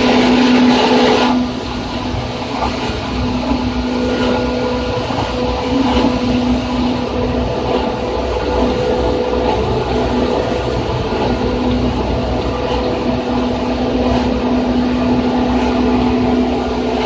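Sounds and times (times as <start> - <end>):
low motor hum: 0.0 - 17.0
train rolling rumble and wheel noise: 0.0 - 17.0.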